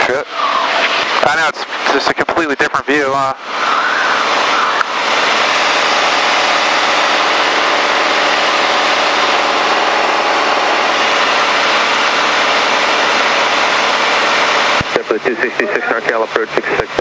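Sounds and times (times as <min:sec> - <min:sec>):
aircraft engine and propeller droning: 0:00.0 - 0:17.0
airflow noise: 0:03.2 - 0:17.0.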